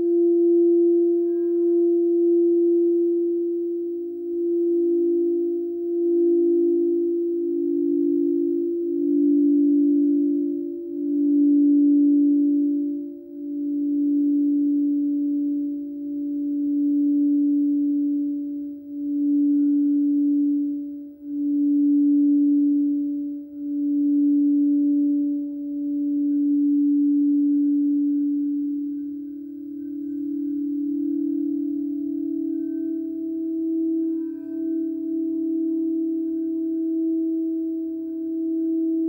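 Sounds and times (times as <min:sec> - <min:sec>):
higher singing bowl tone: 0:00.0 - 0:39.0
singing bowl low beating tone: 0:00.0 - 0:39.0.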